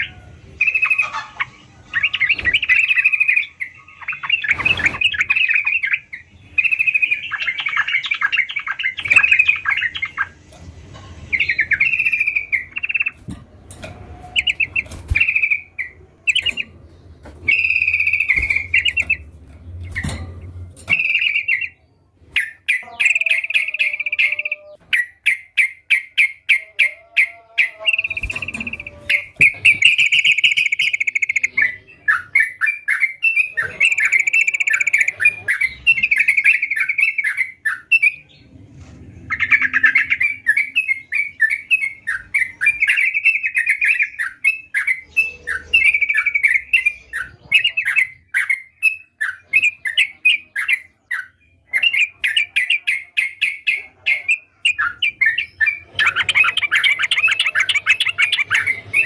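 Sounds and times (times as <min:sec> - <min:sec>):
bird singing chattering phrases: 0:00.0 - 0:59.0.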